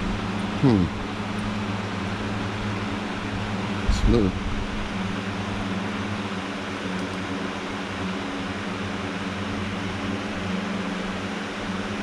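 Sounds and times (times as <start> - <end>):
machine hum with hiss: 0.0 - 12.0.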